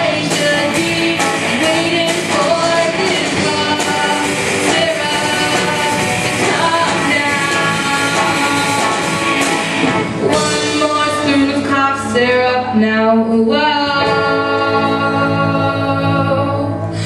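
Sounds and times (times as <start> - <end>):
live rock band playing: 0.0 - 12.9, 13.6 - 17.0
person singing: 0.0 - 17.0.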